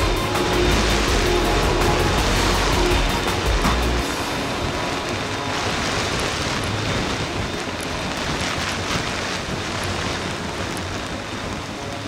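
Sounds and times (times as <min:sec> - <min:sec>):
aircraft engine taxiing: 0:00.0 - 0:12.0
heavy rain: 0:00.0 - 0:12.0
wind on microphone: 0:00.0 - 0:12.0.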